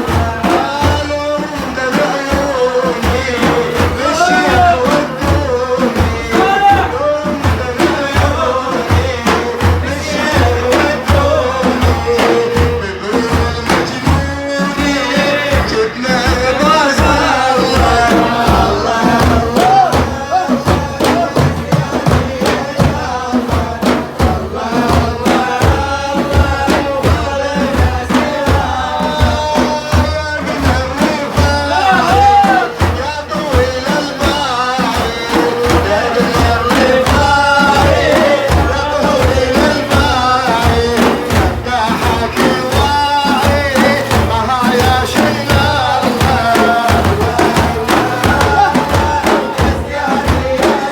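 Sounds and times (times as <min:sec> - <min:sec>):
hand drums beating: 0:00.0 - 0:50.9
man singing: 0:00.0 - 0:50.9.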